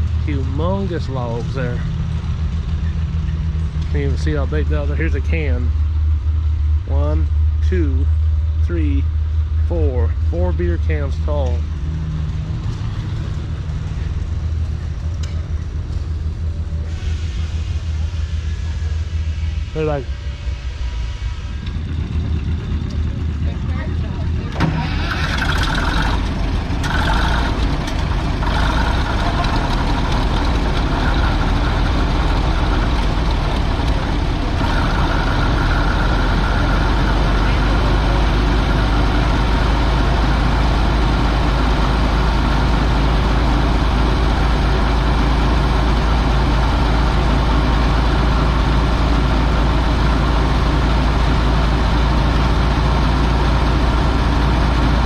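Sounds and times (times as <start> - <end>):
heavy engine idling: 0.0 - 55.0.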